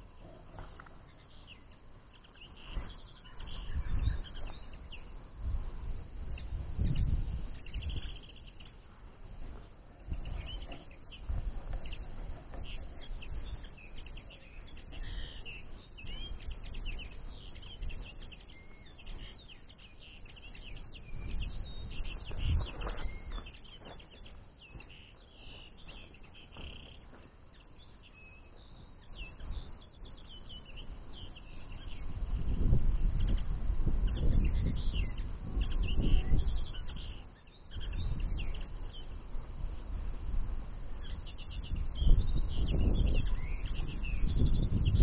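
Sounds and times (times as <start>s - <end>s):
birds twittering: 0.0s - 45.0s.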